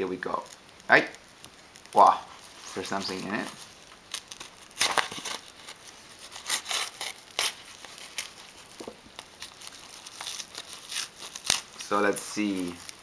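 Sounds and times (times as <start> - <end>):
padded envelope crinkling: 0.0 - 13.0.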